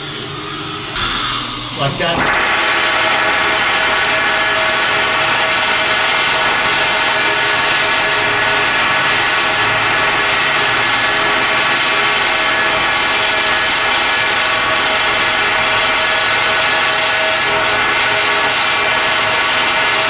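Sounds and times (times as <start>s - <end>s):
pneumatic air hammer hammering: 0.9s - 20.0s.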